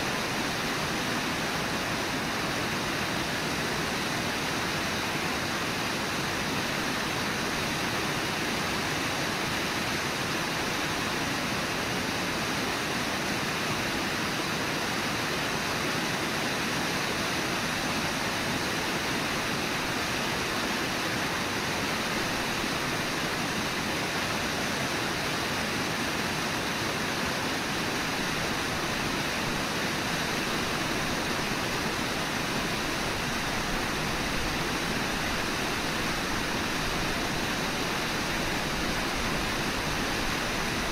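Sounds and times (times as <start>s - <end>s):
fast-flowing river rushing: 0.0s - 40.9s.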